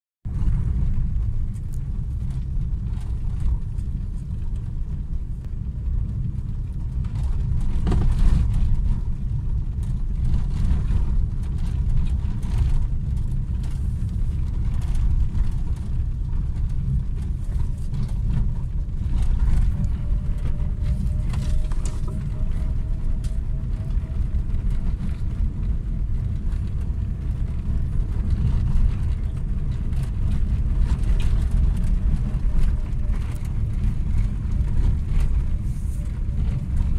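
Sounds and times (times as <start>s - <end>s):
tyres rumbling on rough track: 0.3s - 36.9s.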